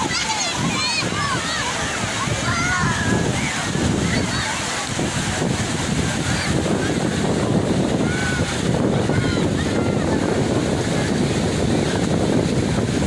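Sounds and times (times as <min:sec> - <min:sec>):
surf on the shore: 0:00.0 - 0:13.0
wind buffeting microphone: 0:00.0 - 0:13.0.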